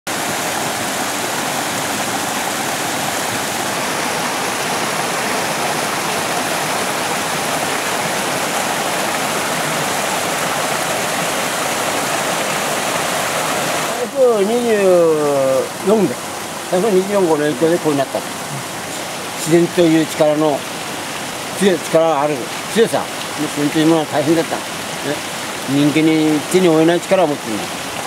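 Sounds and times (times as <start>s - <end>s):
stream flowing: 0.1s - 28.0s.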